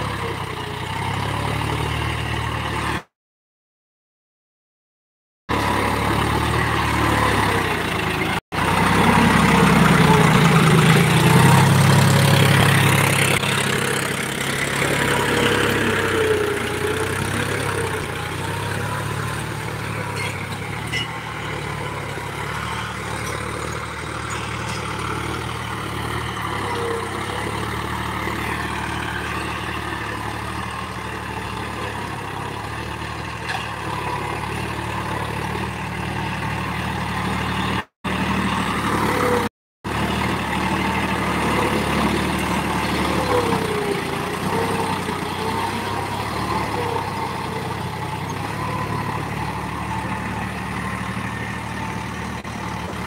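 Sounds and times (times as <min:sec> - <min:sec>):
tractor diesel engine running: 0:00.0 - 0:03.1, 0:05.5 - 0:53.0.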